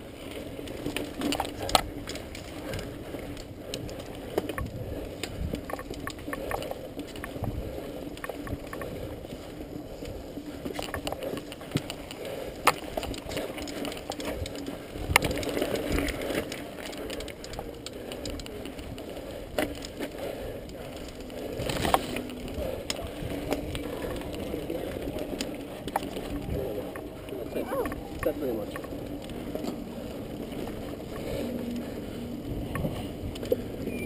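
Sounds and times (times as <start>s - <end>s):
bike rattling: 0.0s - 34.0s
wheels knocking on bumps: 0.6s - 34.0s.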